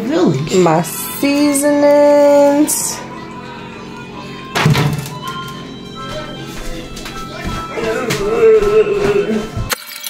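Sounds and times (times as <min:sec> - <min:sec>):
background music: 0:00.0 - 0:09.7.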